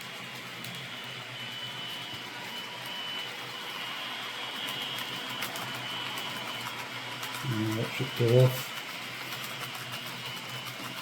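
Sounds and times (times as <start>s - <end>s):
wheel and motor noise: 0.0s - 11.0s.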